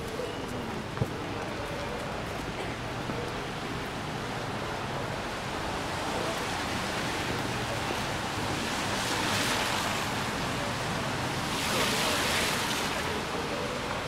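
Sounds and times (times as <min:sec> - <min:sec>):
wet city street hiss: 0:00.0 - 0:14.0.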